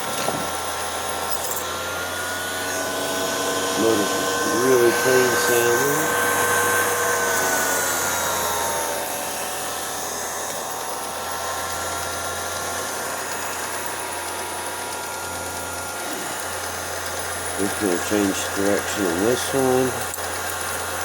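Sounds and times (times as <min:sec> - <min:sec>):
projector motor whine: 0:00.0 - 0:21.0.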